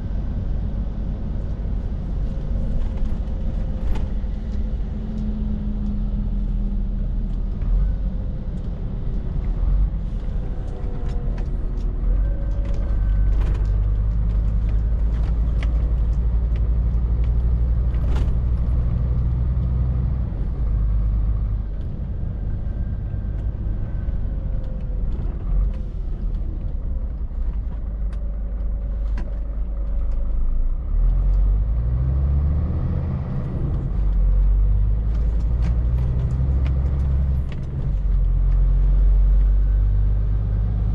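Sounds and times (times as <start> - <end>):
lorry diesel engine running: 0.0 - 40.9
road noise: 0.0 - 40.9.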